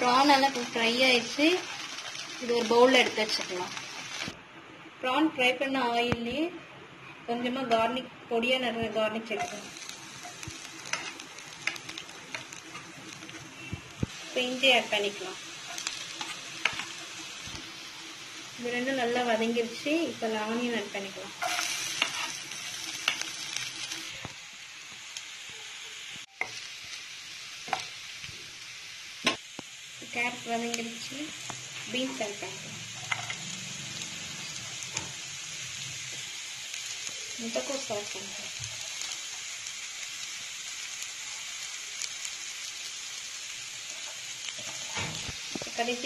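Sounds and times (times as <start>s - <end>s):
vegetables sizzling in hot oil: 0.0s - 4.4s, 7.3s - 46.0s.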